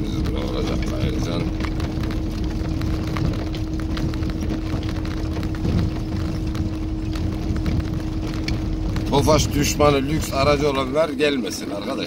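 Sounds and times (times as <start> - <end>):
car engine and road rumble: 0.0 - 12.0
knocks and rattles of car body: 0.0 - 12.0
steady droning tone: 0.0 - 12.0.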